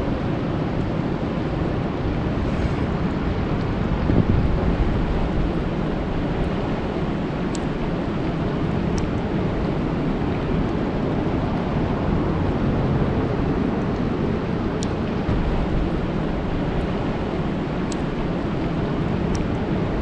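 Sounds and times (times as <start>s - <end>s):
rain falling on water: 3.5s - 20.0s.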